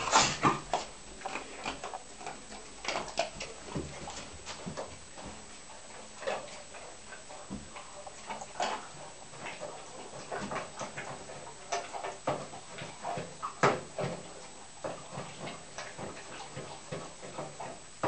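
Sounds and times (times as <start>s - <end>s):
dog crunching dry kibble: 0.0s - 18.0s.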